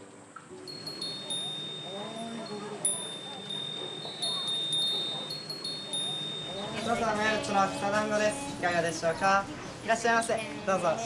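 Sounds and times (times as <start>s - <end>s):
wind chimes ringing: 0.6s - 11.0s
faint voices: 0.7s - 11.0s.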